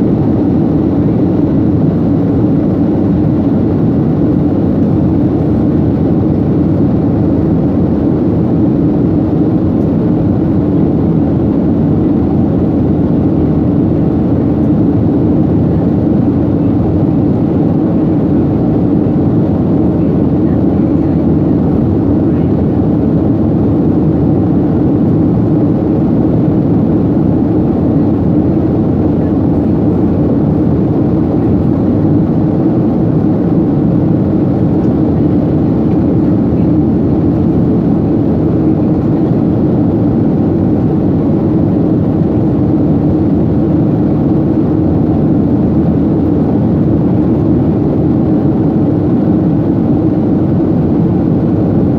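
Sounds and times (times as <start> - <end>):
jet engines roaring in cabin: 0.0 - 51.9.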